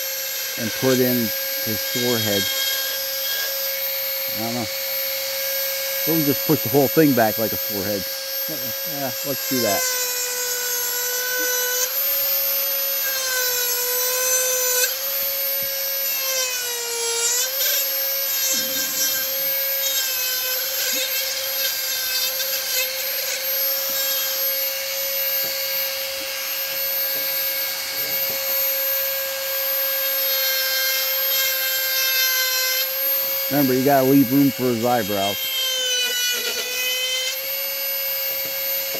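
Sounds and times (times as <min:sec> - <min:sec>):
rotary tool grinding wood: 0:00.0 - 0:38.9.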